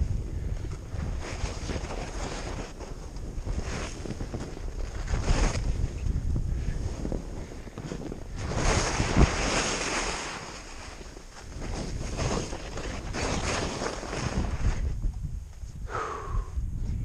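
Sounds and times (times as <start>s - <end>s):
wind noise on microphone: 0.0s - 17.0s
skis scraping through powder snow: 0.2s - 15.0s.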